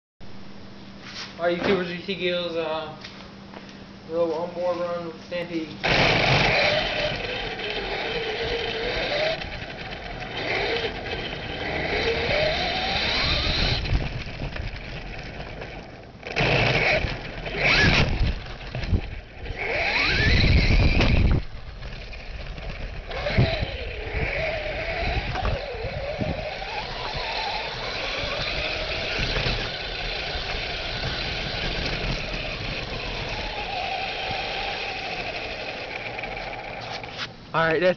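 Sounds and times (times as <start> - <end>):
rc truck motor whine: 5.5 - 37.3
tyre and drivetrain noise: 5.7 - 37.8.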